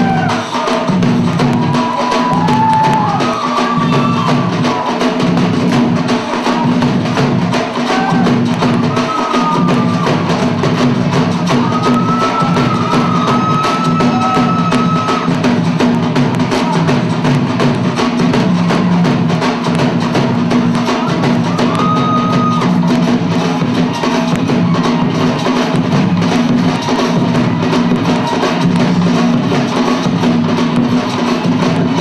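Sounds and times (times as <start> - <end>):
bhangra music with dhol drumming: 0.0 - 32.0.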